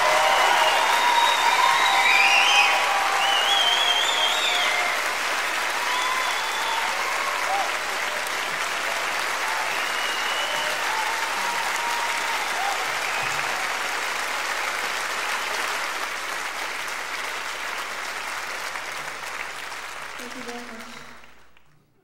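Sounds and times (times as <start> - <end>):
audience applauding: 0.0 - 21.9.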